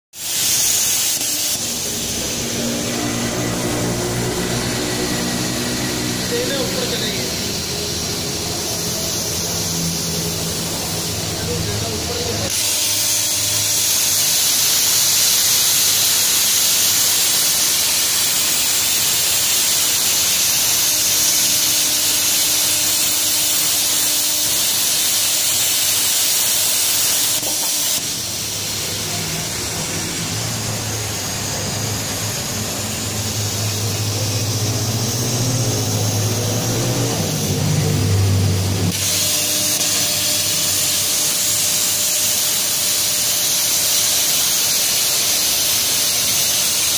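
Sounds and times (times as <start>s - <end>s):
plasma torch hissing: 0.1s - 46.9s.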